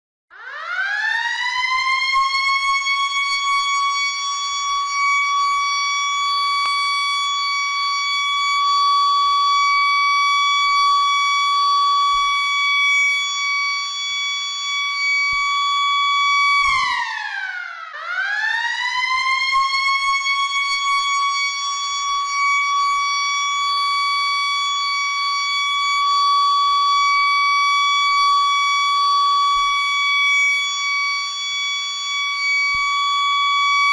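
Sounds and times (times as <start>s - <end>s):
school bell siren wailing: 0.4s - 33.9s.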